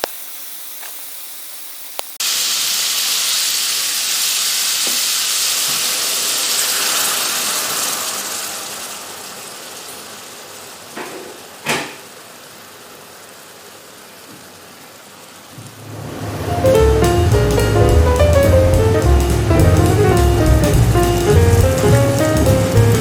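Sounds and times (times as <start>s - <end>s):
food sizzling in a frying pan: 0.0s - 12.8s, 15.8s - 23.0s.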